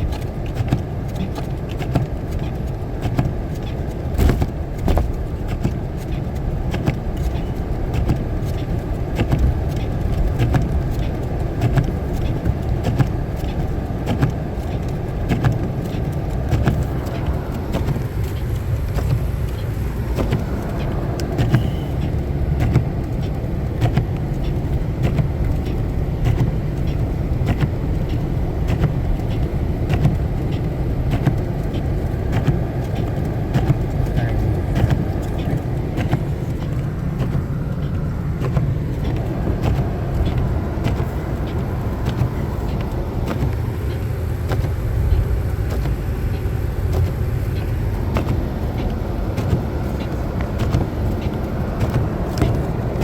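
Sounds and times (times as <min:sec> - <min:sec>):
car rumbling on snowy road: 0:00.0 - 0:53.0.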